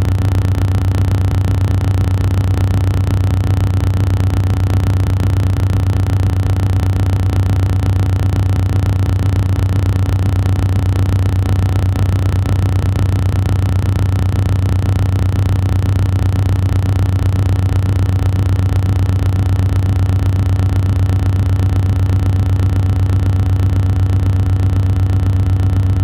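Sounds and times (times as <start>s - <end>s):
loud low-pitched hum: 0.0s - 26.0s.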